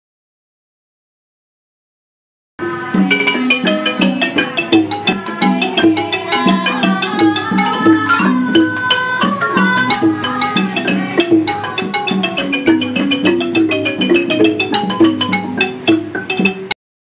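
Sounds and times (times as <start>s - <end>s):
lower percussion pattern: 2.6s - 16.8s
wooden xylophone runs: 2.6s - 16.8s.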